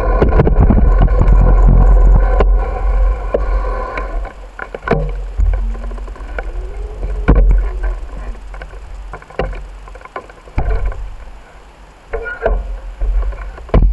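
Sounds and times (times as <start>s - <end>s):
bicycle knocks and rattles: 0.0s - 2.6s, 4.2s - 11.4s, 12.1s - 13.9s
wind and road rumble: 0.0s - 13.9s.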